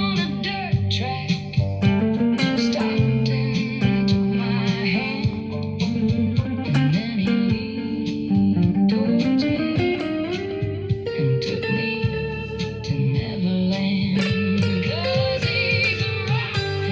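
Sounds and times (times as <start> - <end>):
electric guitar playing: 0.0 - 16.9.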